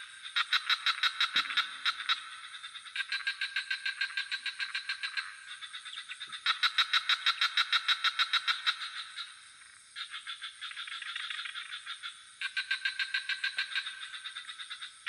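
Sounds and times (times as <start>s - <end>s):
frogs trilling: 0.0s - 15.0s.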